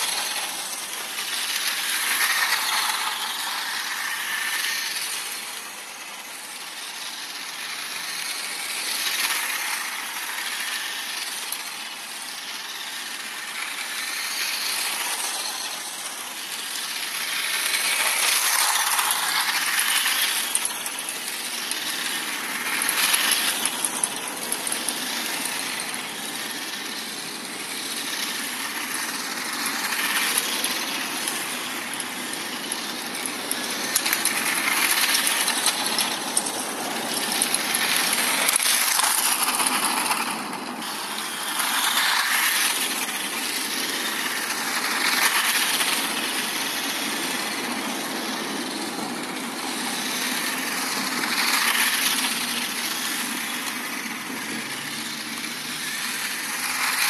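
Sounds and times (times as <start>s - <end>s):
toy truck wheels rattling on tarmac: 0.0s - 57.0s.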